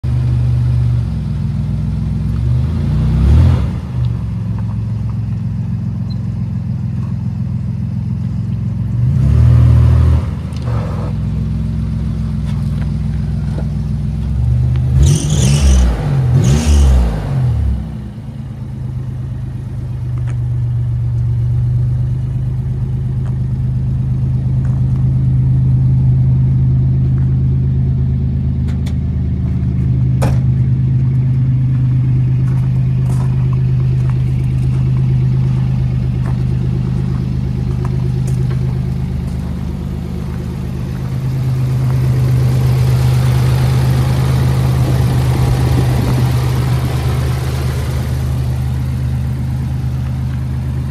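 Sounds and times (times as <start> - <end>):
car engine idling: 0.0 - 16.6, 17.6 - 50.9.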